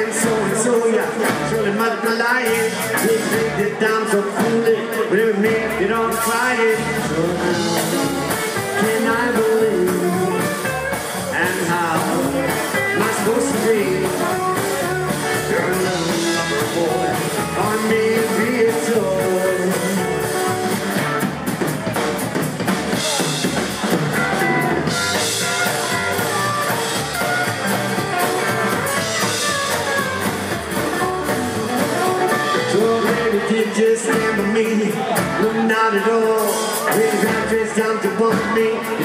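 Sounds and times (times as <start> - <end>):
acoustic guitar: 0.0 - 39.0
drum kit: 0.0 - 39.0
electric guitar: 0.0 - 39.0
upright double bass: 0.0 - 39.0.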